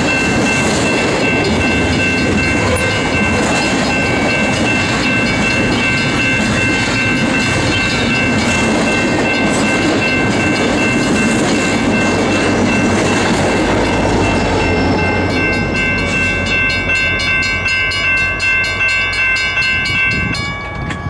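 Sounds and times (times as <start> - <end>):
steady high ringing tone: 0.0 - 21.0
train wheels rumbling on rail: 0.0 - 21.0.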